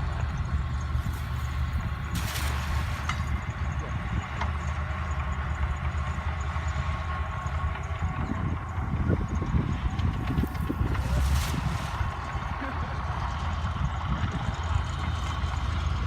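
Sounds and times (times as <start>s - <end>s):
boat engine rumbling with whine: 0.0s - 16.0s.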